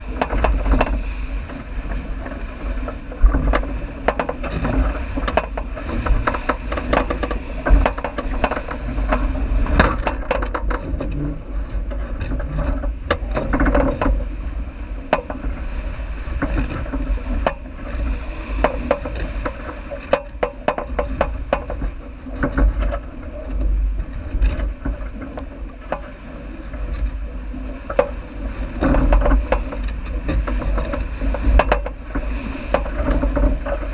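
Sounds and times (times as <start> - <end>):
knocks and splashes: 0.0 - 33.9
wind and water rushing: 0.0 - 33.9
wind rumble on microphone: 0.0 - 33.9.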